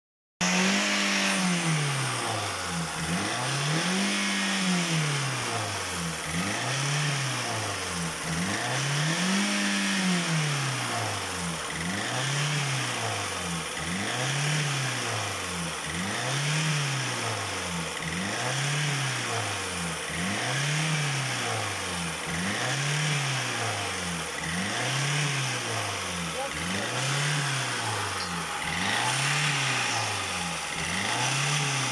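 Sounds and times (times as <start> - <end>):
car engine revving: 0.4 - 31.9.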